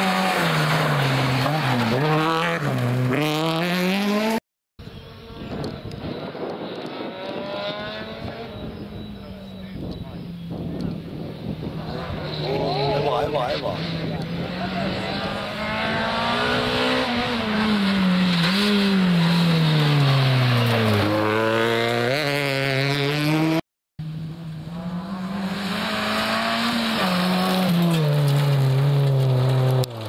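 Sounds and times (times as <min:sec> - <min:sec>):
rally car engine revving: 0:00.0 - 0:04.4, 0:05.2 - 0:30.0.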